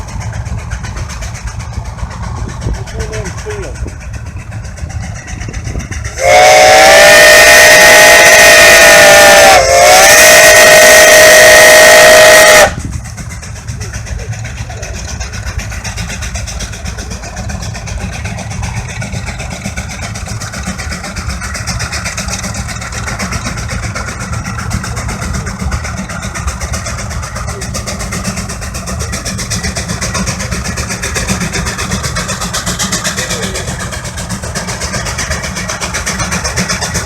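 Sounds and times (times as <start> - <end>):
steam traction engine rumbling: 0.0 - 37.0.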